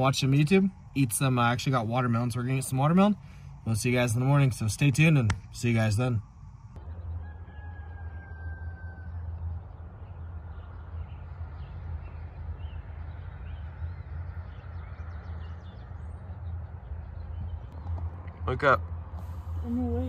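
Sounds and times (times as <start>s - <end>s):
steady low rumble: 0.0s - 7.6s, 9.0s - 20.0s.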